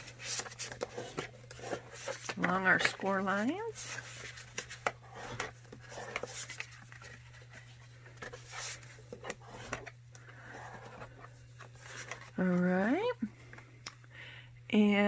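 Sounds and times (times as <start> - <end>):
paper rubbing and scraping: 0.0 - 12.3.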